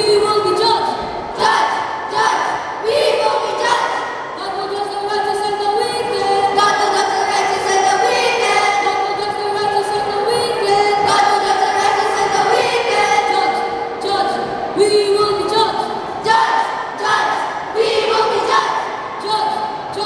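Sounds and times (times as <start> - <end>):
students singing in unison: 0.7 - 19.9.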